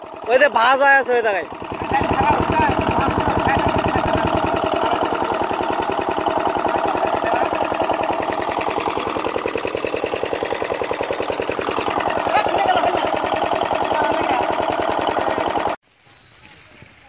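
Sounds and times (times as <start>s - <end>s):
diesel engine chugging: 0.0s - 15.8s.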